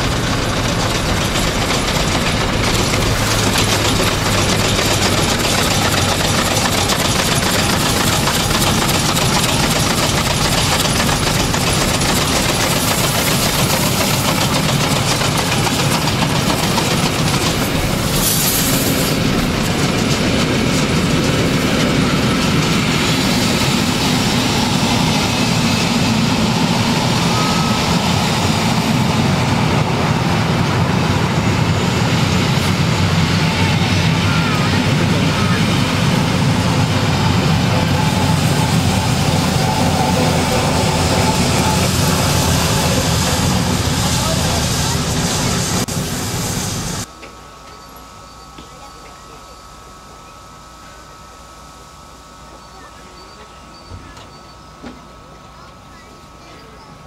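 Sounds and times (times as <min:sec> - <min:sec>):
steam hiss: 0:00.0 - 0:47.1
steam train rumbling and clattering: 0:00.0 - 0:51.3.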